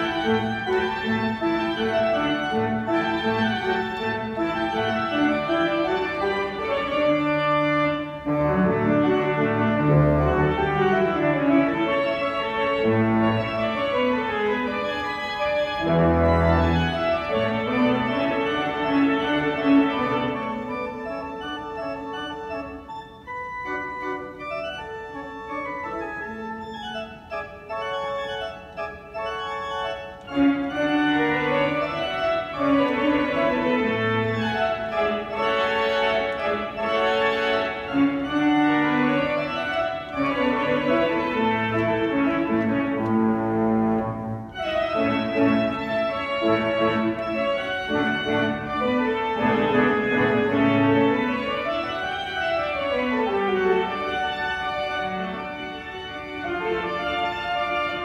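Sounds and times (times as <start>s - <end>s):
pipe organ playing: 0.0s - 58.0s.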